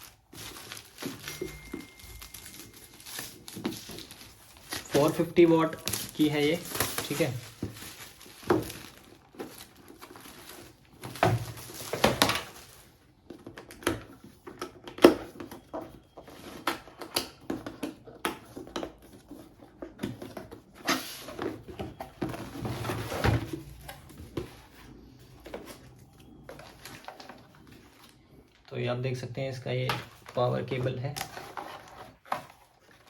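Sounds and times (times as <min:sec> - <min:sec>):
packaging rustling: 0:00.0 - 0:17.0, 0:18.5 - 0:28.7, 0:30.0 - 0:33.0
cardboard packaging handled: 0:00.0 - 0:28.4, 0:30.0 - 0:33.0.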